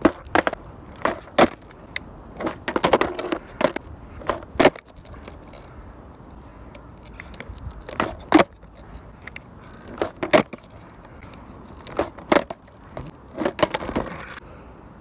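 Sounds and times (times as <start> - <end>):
skateboard wheels clacking: 0.0 - 14.4.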